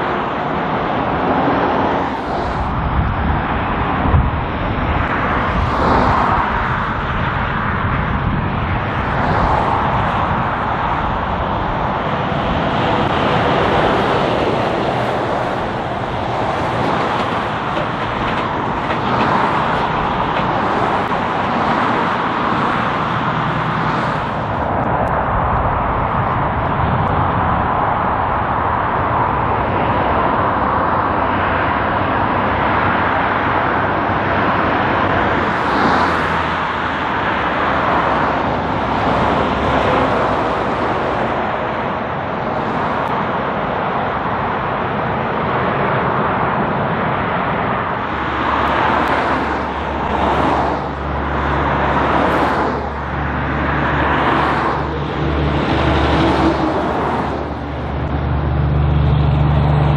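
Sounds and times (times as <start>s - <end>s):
truck diesel engine drone: 0.0s - 59.9s
truck driving: 0.0s - 59.9s
vehicles swishing past: 0.0s - 59.9s.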